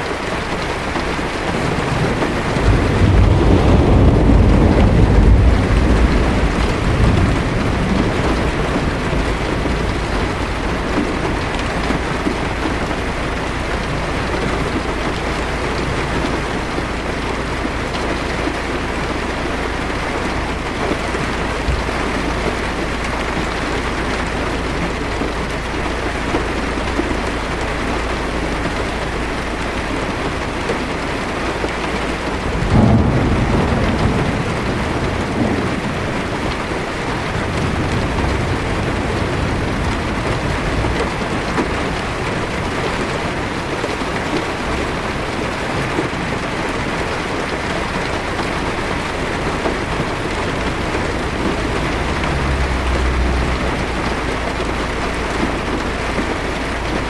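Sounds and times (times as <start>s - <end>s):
heavy rain on windshield: 0.0s - 57.0s
thunder rolling: 0.1s - 30.9s, 31.5s - 57.0s.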